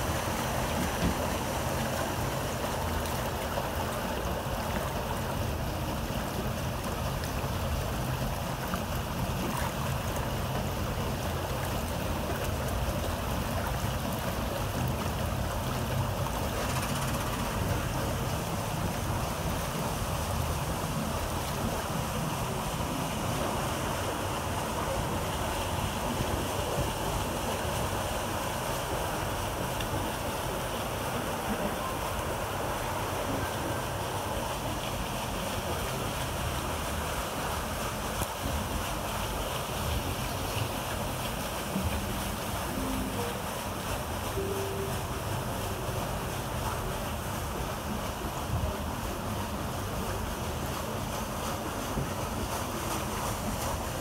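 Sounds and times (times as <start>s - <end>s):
river water rushing along hull: 0.0s - 54.0s.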